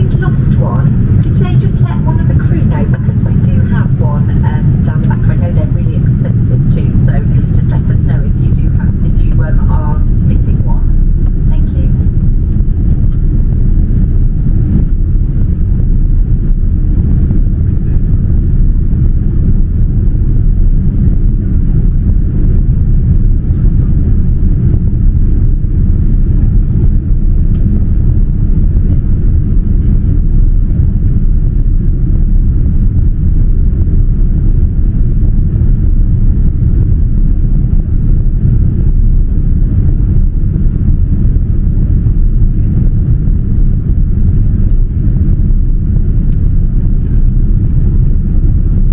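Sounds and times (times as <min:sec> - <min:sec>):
jet engines rumbling: 0:00.0 - 0:48.9
rush of airflow: 0:00.0 - 0:48.9.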